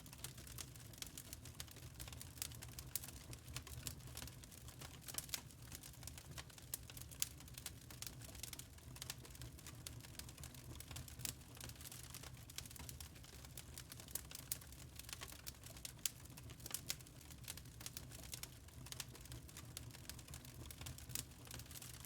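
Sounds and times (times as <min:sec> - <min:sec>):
low rumble of flames: 0:00.0 - 0:22.0
wood fire crackling: 0:00.0 - 0:22.0
burning logs popping: 0:00.1 - 0:22.0.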